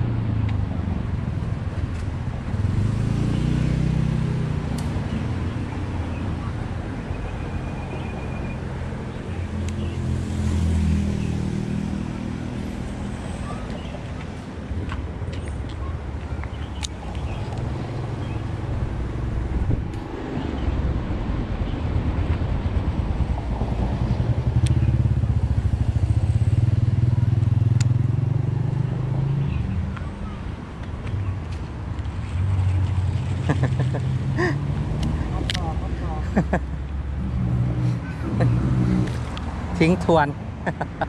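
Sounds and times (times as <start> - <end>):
road traffic: 0.0 - 41.0
vehicle engine passing: 2.5 - 6.8, 8.6 - 14.8, 17.0 - 30.4, 32.0 - 41.0.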